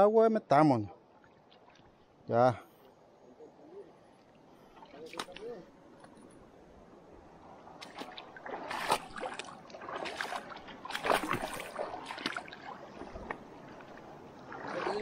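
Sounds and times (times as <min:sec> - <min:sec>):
river water splashing: 0:00.9 - 0:02.2, 0:04.0 - 0:15.0.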